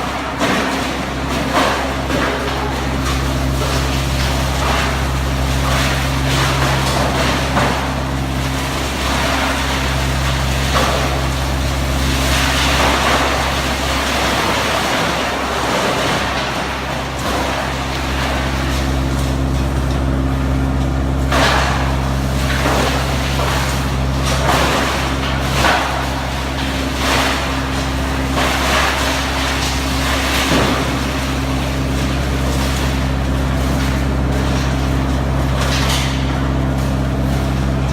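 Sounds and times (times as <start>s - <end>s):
wood chipper engine hum: 0.0s - 37.9s
wood chipper grinding: 0.0s - 37.9s.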